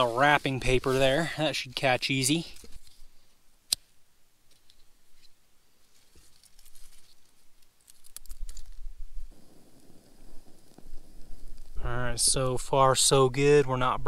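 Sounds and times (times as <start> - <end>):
kindling fire crackling: 0.0 - 3.9, 4.5 - 13.8.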